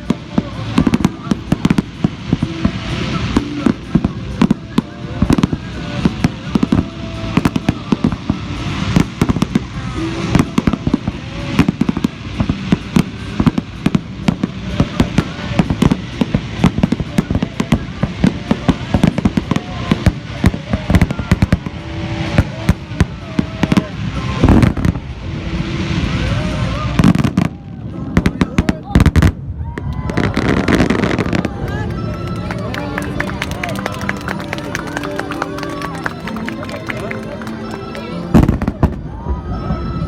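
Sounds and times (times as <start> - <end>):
fireworks bursting: 0.0 - 40.0.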